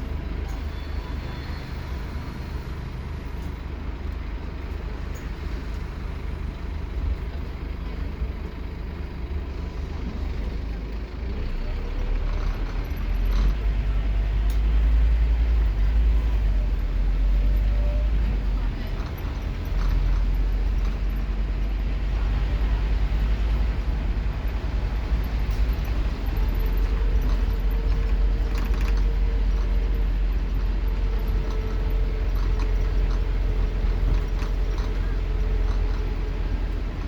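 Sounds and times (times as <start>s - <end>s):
bus diesel engine rumble: 0.0s - 37.0s.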